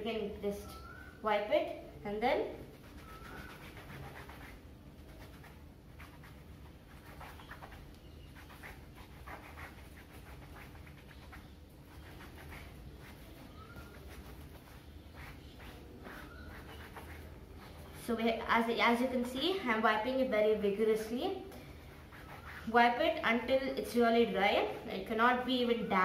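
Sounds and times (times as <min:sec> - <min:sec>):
towel rubbing a cricket pad: 0:02.6 - 0:25.4.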